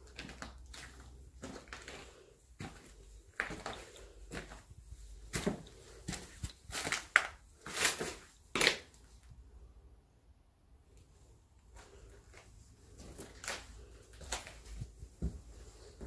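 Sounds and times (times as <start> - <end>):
footsteps crunching over rubble: 0.0 - 8.7, 11.8 - 16.0.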